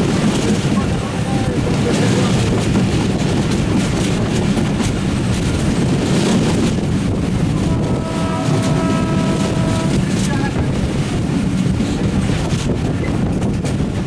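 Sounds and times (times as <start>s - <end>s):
train rumbling at speed: 0.0s - 14.0s.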